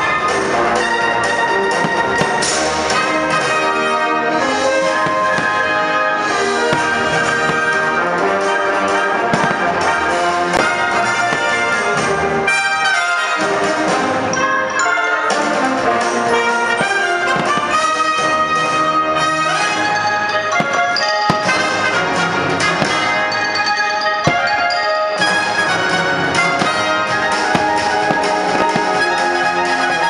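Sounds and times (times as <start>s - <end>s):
orchestral music with brass: 0.0s - 30.0s.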